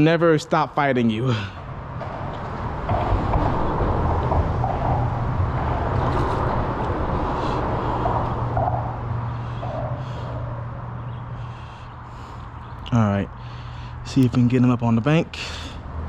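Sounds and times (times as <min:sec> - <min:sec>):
engine drone: 0:01.3 - 0:16.0.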